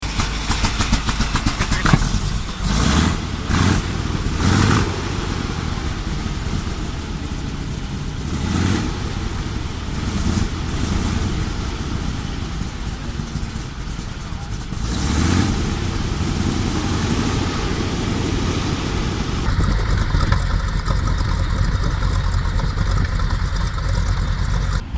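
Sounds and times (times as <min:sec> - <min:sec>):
tank engine rumbling: 0:00.0 - 0:24.9.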